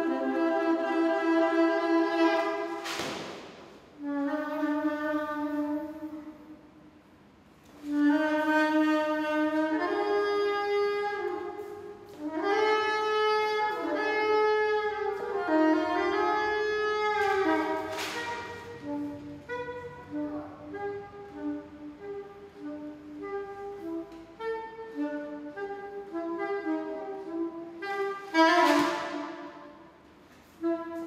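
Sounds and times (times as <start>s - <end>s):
solo saxophone playing held notes: 0.0s - 3.3s, 3.9s - 6.9s, 7.6s - 31.0s.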